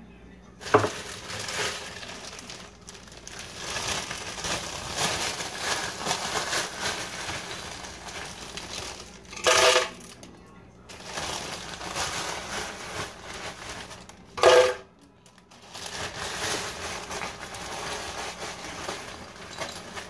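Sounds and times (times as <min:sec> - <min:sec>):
plastic bag crinkling: 0:00.6 - 0:20.0.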